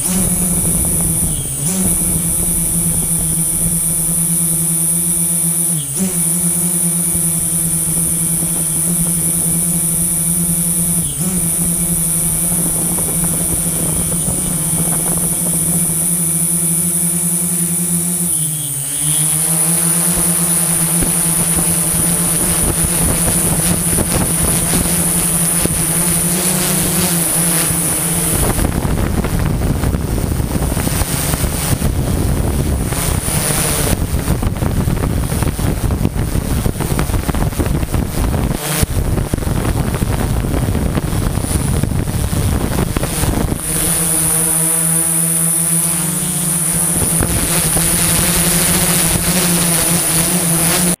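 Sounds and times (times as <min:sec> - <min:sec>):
drone motors humming: 0:00.0 - 0:51.0
high steady whine: 0:00.0 - 0:51.0
wind noise: 0:00.0 - 0:51.0.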